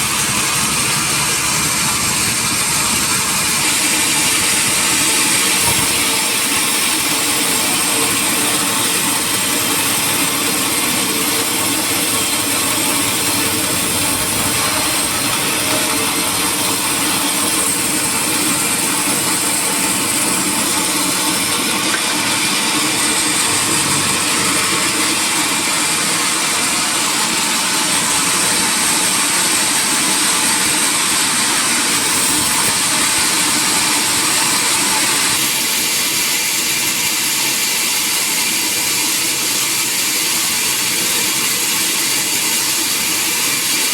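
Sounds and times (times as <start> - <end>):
sawmill machinery whining: 0.0 - 43.9.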